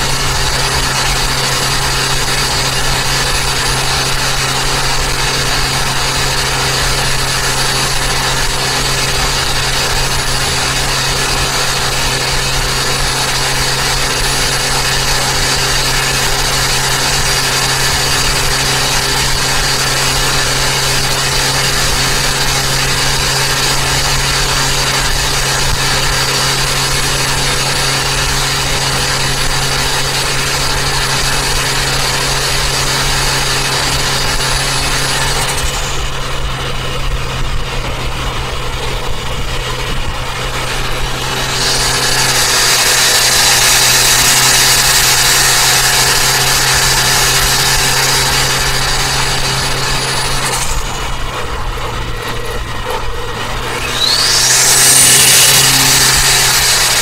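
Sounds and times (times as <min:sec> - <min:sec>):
car engine cruising: 0:00.0 - 0:57.0.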